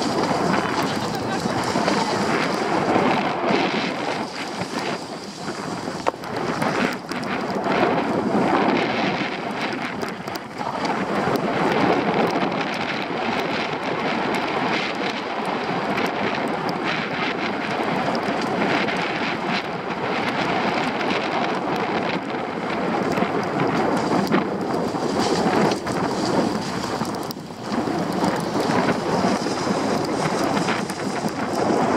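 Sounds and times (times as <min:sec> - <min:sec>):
skis scraping on snow: 0:00.0 - 0:31.9
wind rushing over microphone: 0:00.0 - 0:31.9.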